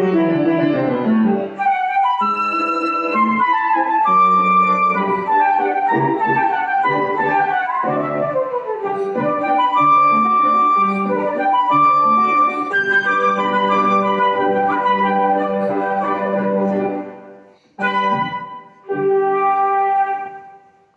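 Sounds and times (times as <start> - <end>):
flute waltz melody: 0.0 - 20.9
piano accompaniment: 0.0 - 20.9.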